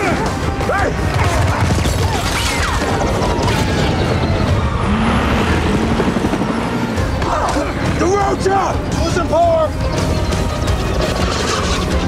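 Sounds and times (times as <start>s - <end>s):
helicopter rotor and engine rumble: 0.0s - 12.0s.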